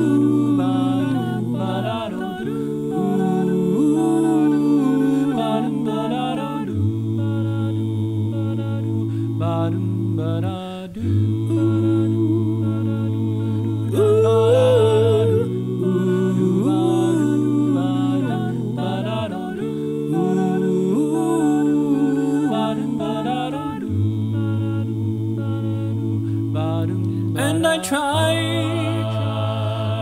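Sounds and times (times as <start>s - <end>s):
man singing a cappella: 0.0s - 30.0s.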